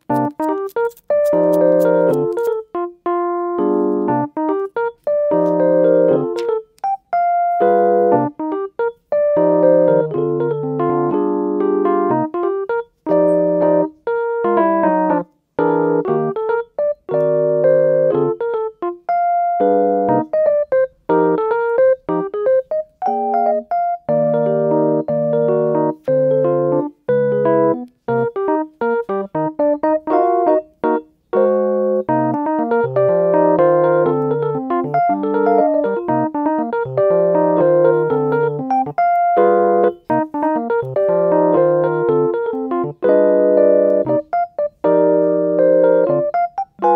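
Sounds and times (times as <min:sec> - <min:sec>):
gentle piano-like keyboard tune: 0:00.0 - 0:46.9.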